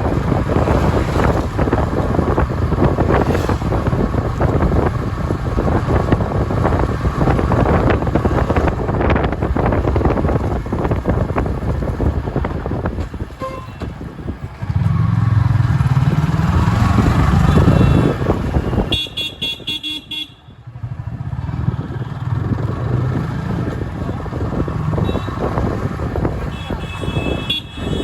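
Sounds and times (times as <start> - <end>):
vehicle engines rumbling past: 0.0 - 19.6, 20.6 - 28.0.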